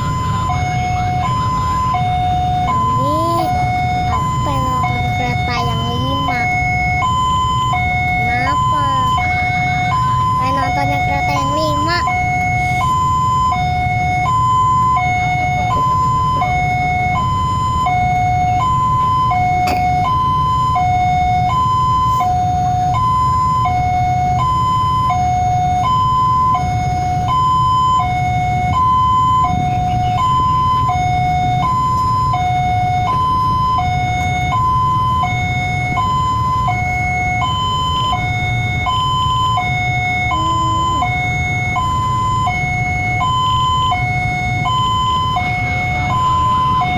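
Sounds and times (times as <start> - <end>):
level crossing two-tone alarm: 0.0 - 46.9.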